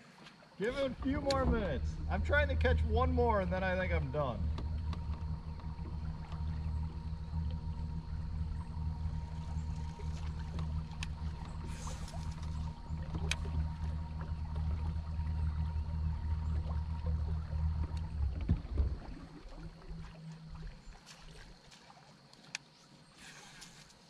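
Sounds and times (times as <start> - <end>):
electric trolling motor humming: 0.6 - 21.6.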